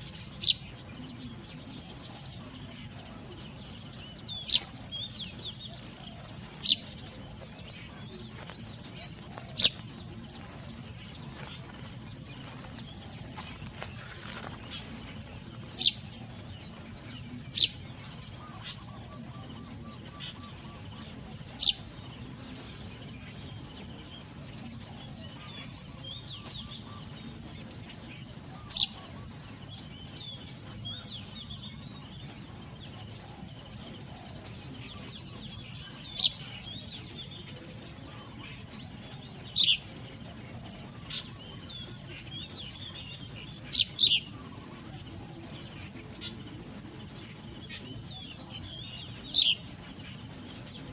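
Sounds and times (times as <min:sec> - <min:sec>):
soft bird twittering: 0:00.0 - 0:50.9
steady low background noise: 0:00.0 - 0:50.9.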